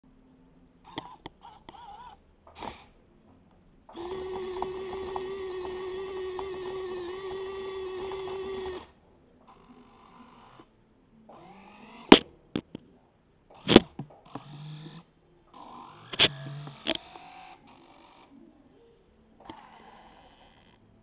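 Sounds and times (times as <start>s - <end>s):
electric gear motors whining: 0.8s - 12.7s, 13.5s - 18.5s, 19.3s - 21.0s.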